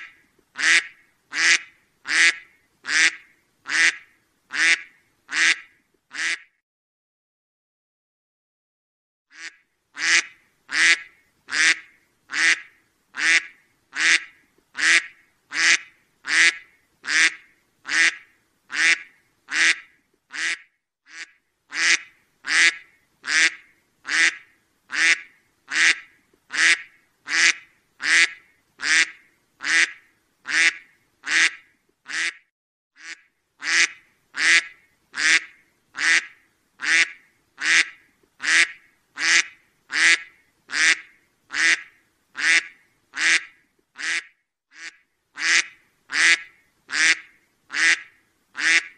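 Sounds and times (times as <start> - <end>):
duck quacking: 0.0 - 6.5, 9.3 - 32.4, 33.0 - 48.9.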